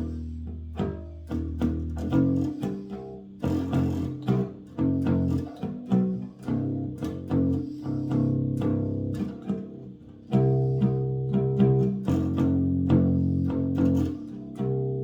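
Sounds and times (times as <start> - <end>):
bass guitar plucked notes: 0.0 - 15.0.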